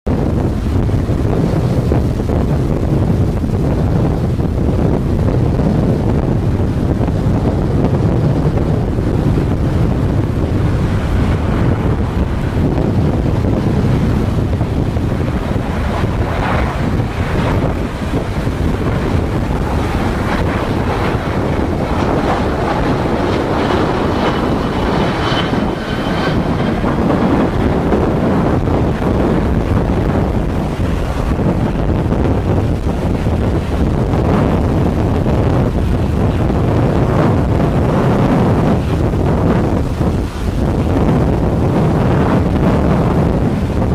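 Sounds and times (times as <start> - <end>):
strong wind buffeting microphone: 0.0 - 43.9
jet engines roaring: 0.1 - 43.9.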